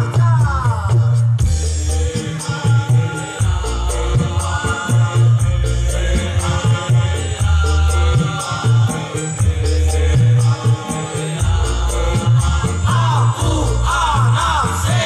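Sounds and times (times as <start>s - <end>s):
high percussion ticking: 0.0s - 15.0s
musical accompaniment with deep bass: 0.0s - 15.0s
men's choir singing: 1.4s - 15.0s.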